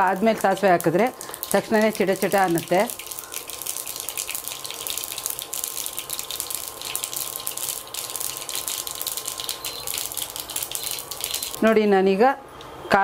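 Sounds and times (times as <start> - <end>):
oil sizzling: 0.0 - 11.8
seeds popping in hot oil: 0.0 - 11.8.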